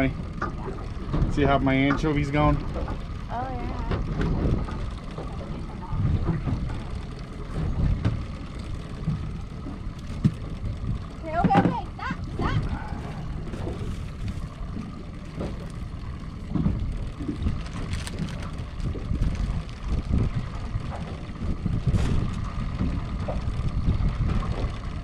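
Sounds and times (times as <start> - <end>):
boat motor running: 0.0 - 25.0
wind buffeting microphone: 0.0 - 25.0.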